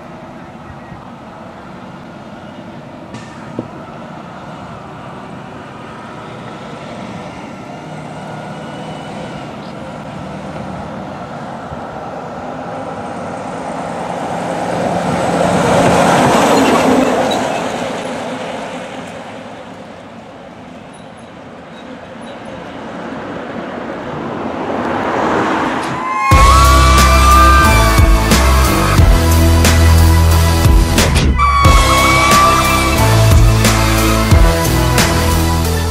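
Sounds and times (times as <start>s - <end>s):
fire engine driving past: 0.0s - 21.5s, 22.1s - 35.9s.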